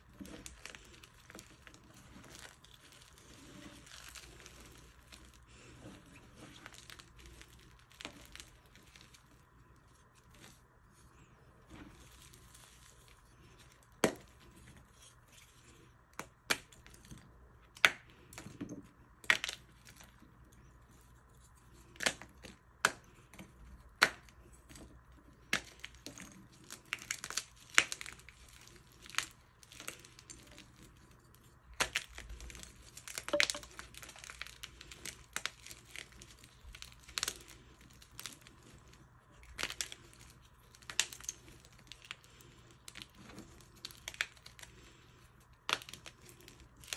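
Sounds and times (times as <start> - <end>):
chalk blocks cracking and crunching: 0.0 - 46.9.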